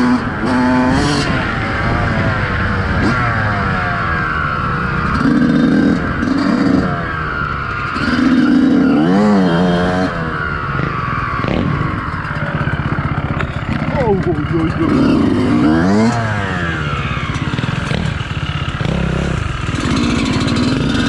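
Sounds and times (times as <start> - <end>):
motocross bike engine revving: 0.0 - 21.0.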